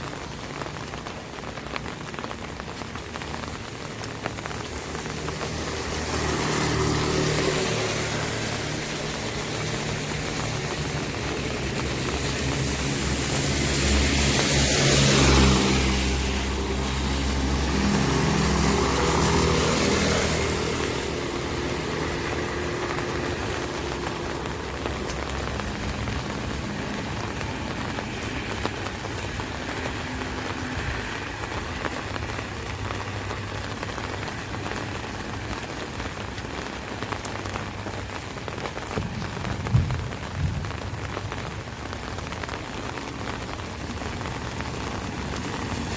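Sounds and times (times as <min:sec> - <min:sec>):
rain on an umbrella: 0:00.0 - 0:45.9
vehicle passing: 0:00.4 - 0:45.9.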